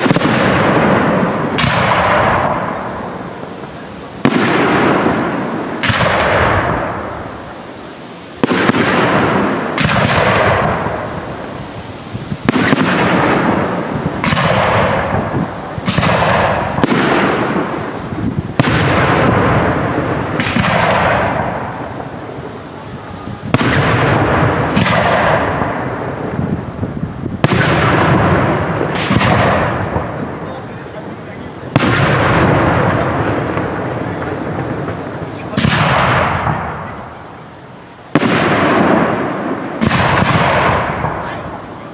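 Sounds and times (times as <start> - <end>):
fireworks bursting with echo: 0.0 - 41.9.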